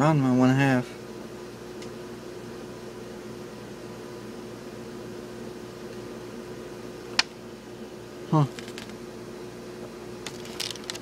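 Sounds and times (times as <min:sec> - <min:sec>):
fan hum with faint tone: 0:00.0 - 0:11.0.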